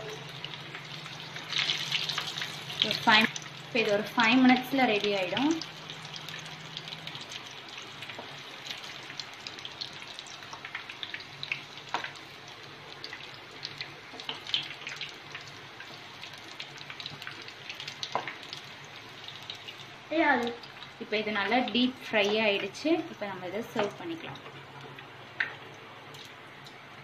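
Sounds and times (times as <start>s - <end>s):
oil crackles and pops: 0.0s - 21.0s, 21.6s - 27.0s
deep-frying sizzle: 0.0s - 27.0s.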